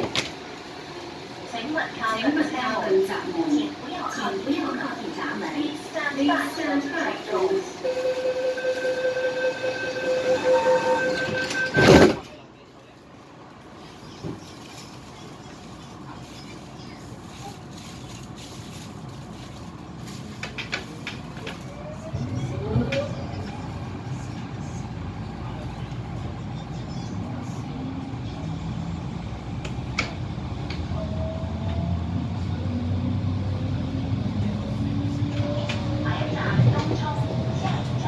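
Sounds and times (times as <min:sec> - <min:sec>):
train running noise: 0:00.0 - 0:38.0.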